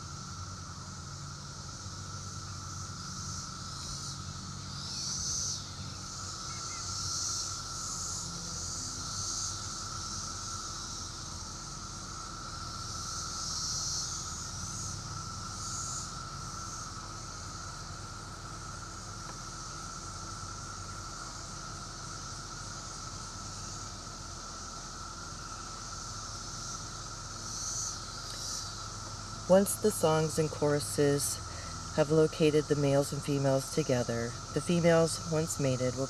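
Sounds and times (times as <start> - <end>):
cicadas droning: 0.0 - 36.0.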